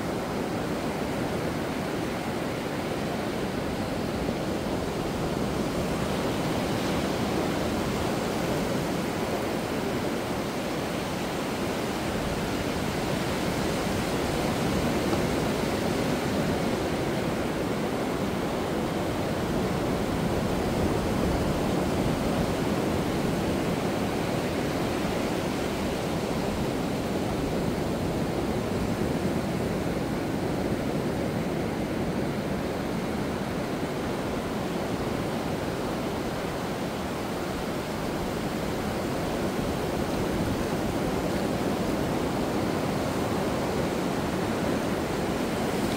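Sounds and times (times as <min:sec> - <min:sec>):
ocean surf breaking on beach: 0:00.0 - 0:45.9.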